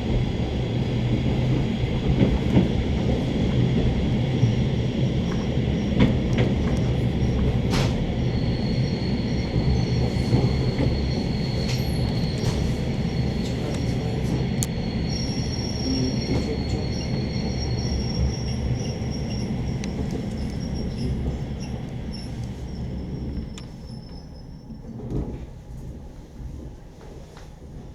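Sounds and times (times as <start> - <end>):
train squealing: 0.0 - 26.0
train rumbling: 0.0 - 27.9.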